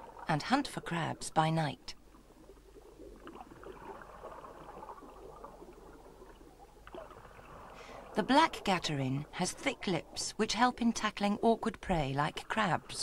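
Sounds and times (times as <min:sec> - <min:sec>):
underwater gurgling: 0:00.0 - 0:13.0.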